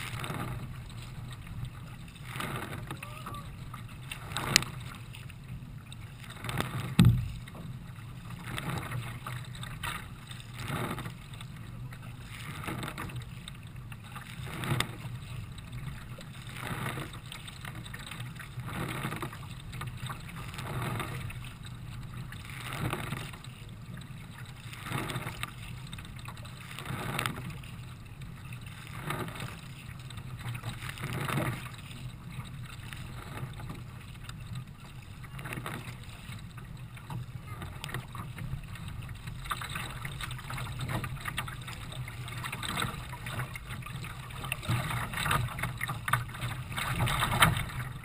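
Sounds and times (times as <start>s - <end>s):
paddle strokes splashing: 0.0s - 48.0s
water rumbling against hull: 0.0s - 48.0s.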